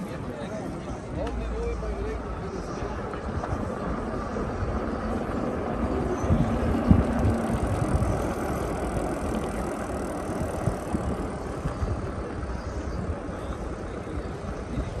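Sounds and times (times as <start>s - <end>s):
bike tyres rolling on paving: 0.0s - 15.0s
wind over microphone: 0.0s - 15.0s.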